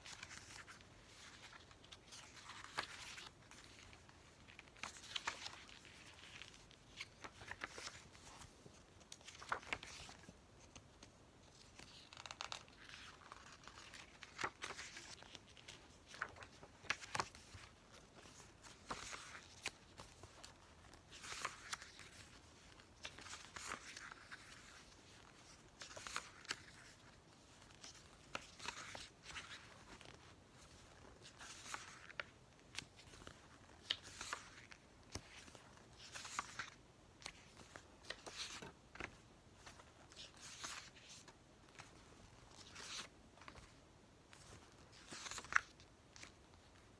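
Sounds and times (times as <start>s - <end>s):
book pages turning: 0.0s - 46.9s.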